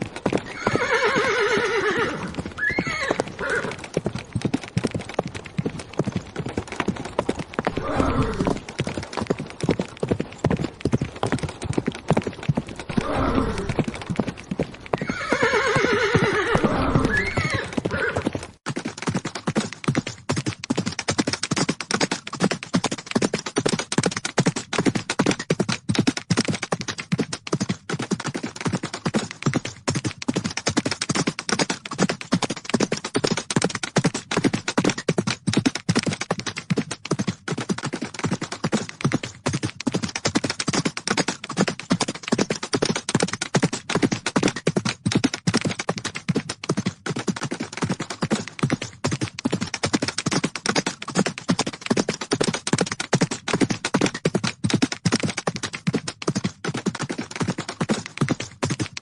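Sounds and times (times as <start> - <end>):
horses galloping hoofbeats: 0.0 - 59.0.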